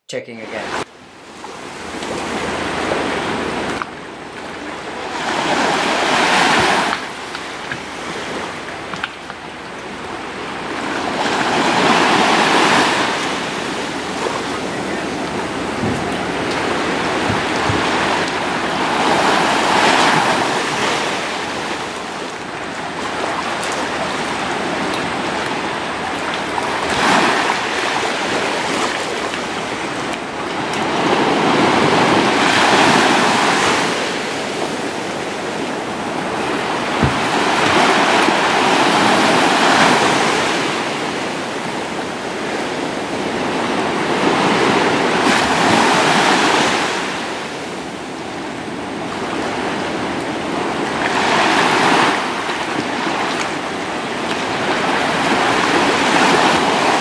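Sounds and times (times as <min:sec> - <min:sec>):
sea waves washing ashore: 0:00.4 - 0:57.0.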